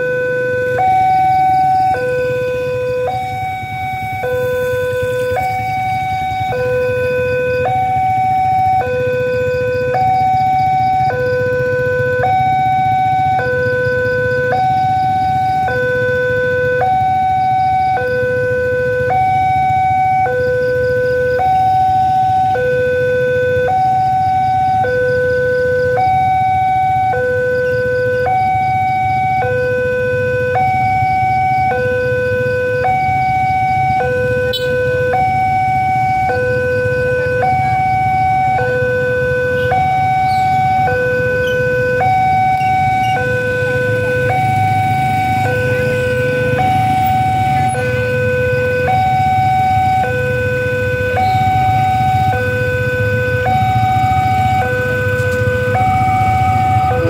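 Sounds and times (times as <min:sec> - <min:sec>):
two-tone electronic crossing alarm: 0:00.0 - 0:57.0.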